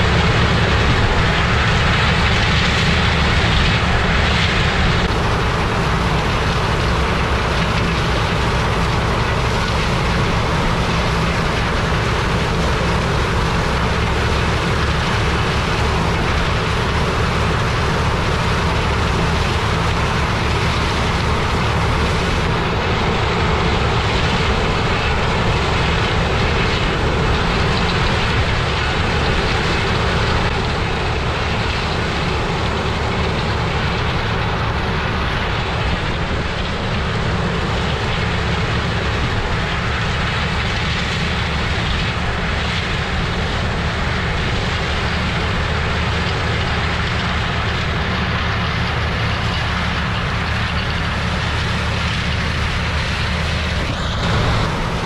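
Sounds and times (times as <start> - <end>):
combine engine hum: 0.0 - 55.0.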